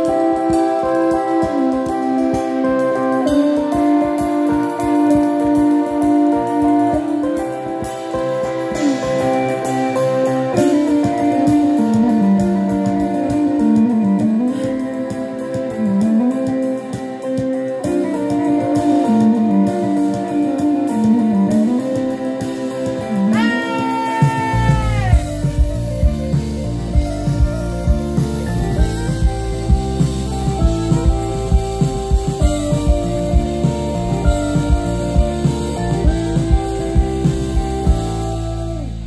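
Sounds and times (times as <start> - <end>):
electric guitar note bending: 0.0 - 39.0
live band playing: 0.0 - 39.0.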